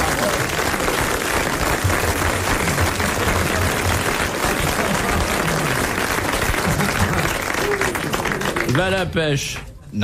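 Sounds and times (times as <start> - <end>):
audience applause: 0.0 - 9.6
murmur of voices: 0.0 - 10.0.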